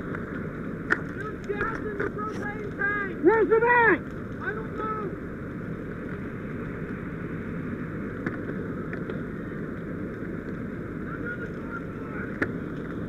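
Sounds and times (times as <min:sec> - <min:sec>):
fire engine rumbling: 0:00.0 - 0:13.0.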